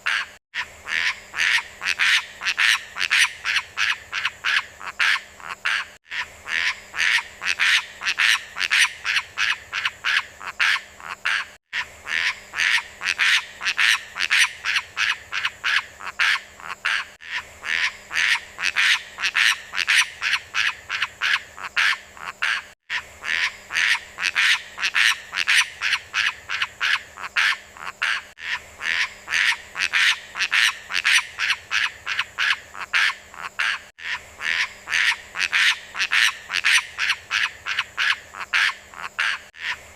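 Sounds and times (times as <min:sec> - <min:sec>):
bird harsh rapid calls: 0:00.0 - 0:39.9.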